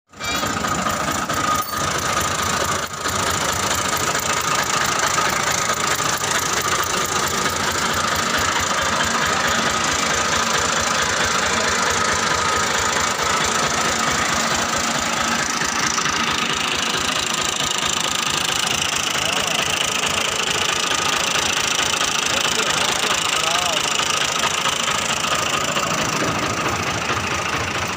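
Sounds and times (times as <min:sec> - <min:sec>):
tractor diesel engine running: 0:00.1 - 0:27.9.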